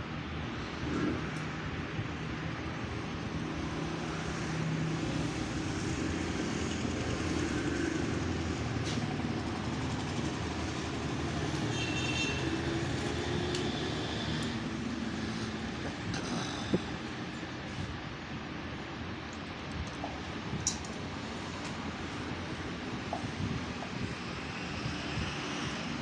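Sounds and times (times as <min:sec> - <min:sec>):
vehicle engine droning: 0:00.5 - 0:26.0.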